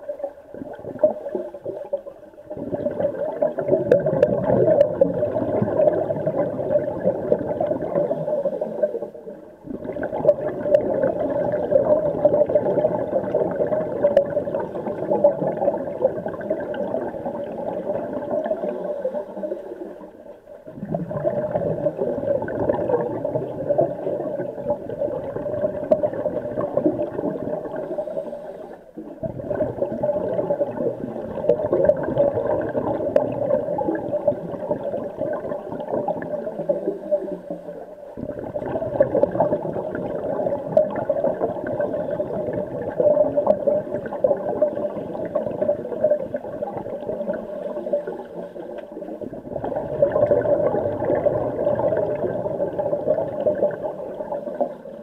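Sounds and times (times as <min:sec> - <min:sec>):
faint crackles: 0:00.0 - 0:55.0
muffled underwater hiss: 0:00.0 - 0:55.0.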